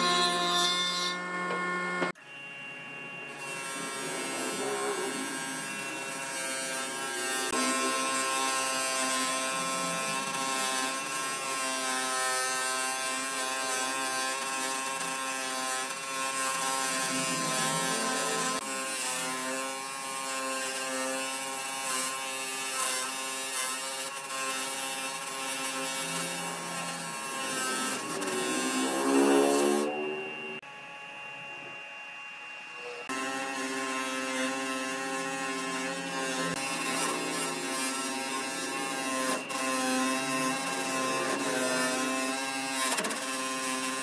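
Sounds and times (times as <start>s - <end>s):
power tool motor buzzing: 0.0s - 44.0s.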